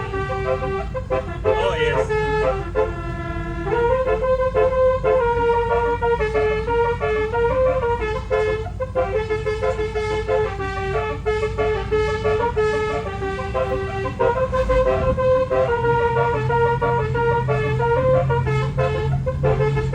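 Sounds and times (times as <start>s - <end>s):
air horn playing a tune: 0.0s - 19.9s.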